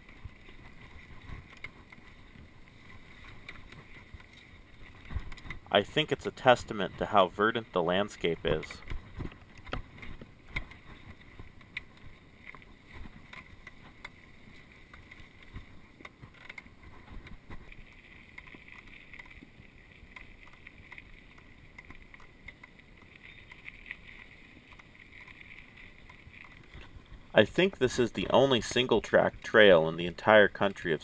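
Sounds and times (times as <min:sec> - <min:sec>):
bike tyres rumbling on trail: 0:00.0 - 0:31.0.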